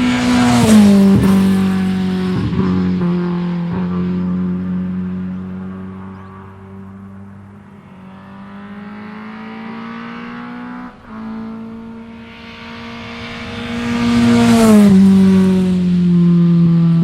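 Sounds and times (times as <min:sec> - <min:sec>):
car engine at full throttle passing: 0:00.0 - 0:17.0.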